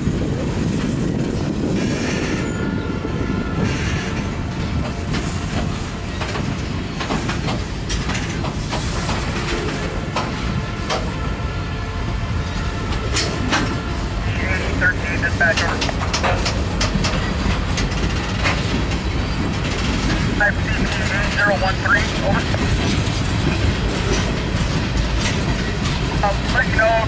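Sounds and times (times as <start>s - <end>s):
train wheels rumbling on rail: 0.0s - 27.0s
wheels clanking over rail joints: 0.0s - 27.0s.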